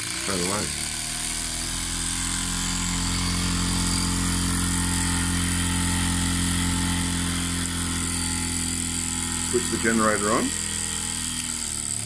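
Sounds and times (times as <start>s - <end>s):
model steam engine running: 0.0s - 12.0s.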